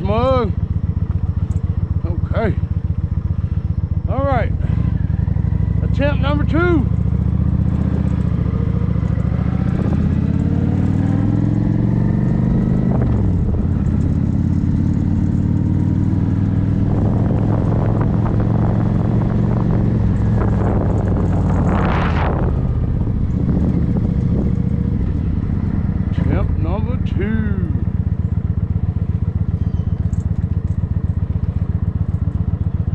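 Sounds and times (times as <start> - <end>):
motorcycle engine idling: 0.0 - 21.7, 22.4 - 32.9.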